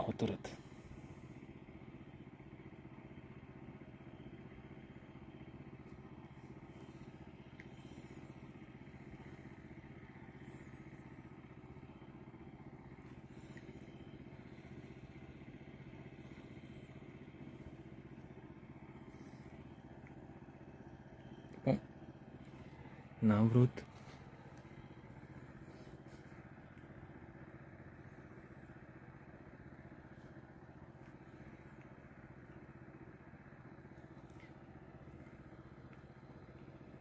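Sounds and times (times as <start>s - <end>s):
distant motor humming: 0.0s - 37.0s.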